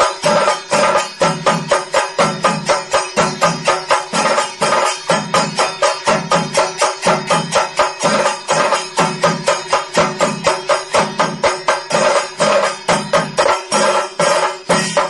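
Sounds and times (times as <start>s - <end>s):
drums and cymbals playing fast beat: 0.0s - 15.0s.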